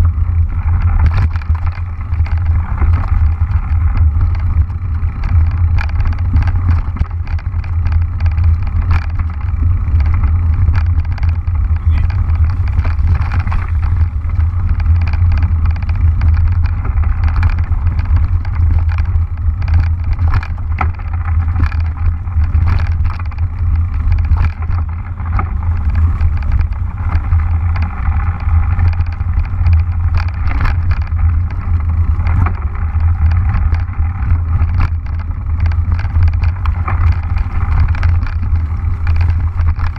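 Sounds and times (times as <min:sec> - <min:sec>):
bike clicks and rattles: 0:00.0 - 0:39.9
bike tyres rolling over leaves: 0:00.0 - 0:39.9
wind rumble on microphone: 0:00.0 - 0:39.9.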